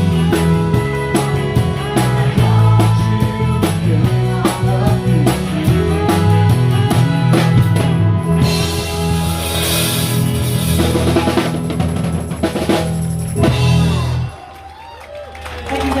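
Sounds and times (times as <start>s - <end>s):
drum kit beat: 0.0s - 14.3s
live rock band playing: 0.0s - 14.6s.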